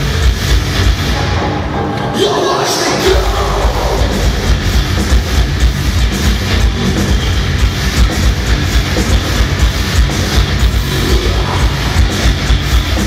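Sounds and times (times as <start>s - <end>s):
chugging low guitars: 0.0s - 13.0s
metal band playing live: 0.0s - 13.0s.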